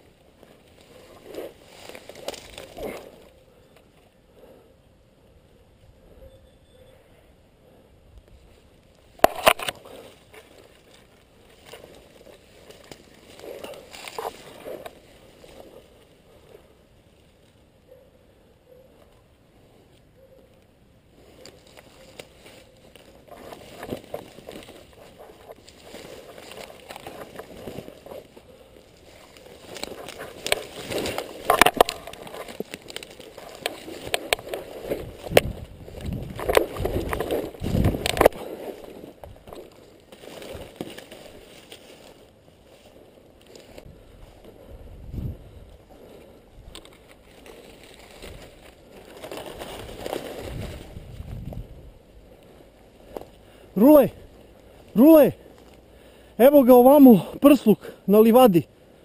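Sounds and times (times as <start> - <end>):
undergrowth rustling and crackling: 0.0 - 6.0, 8.0 - 18.1, 18.7 - 59.0.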